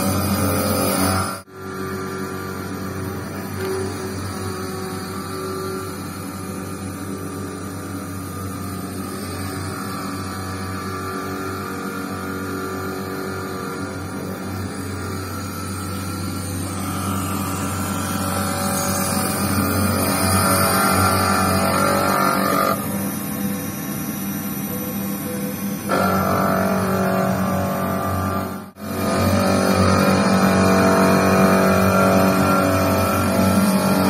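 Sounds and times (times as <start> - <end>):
milling machine motors humming: 0.0 - 34.0.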